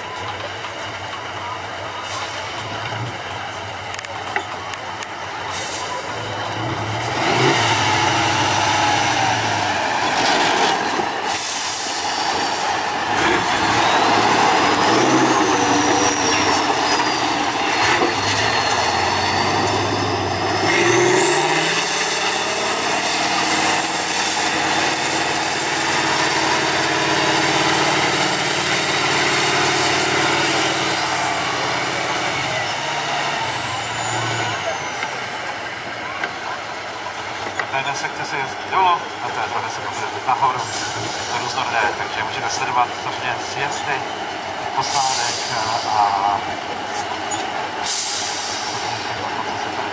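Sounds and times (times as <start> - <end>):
diesel truck engines revving: 0.0 - 49.9.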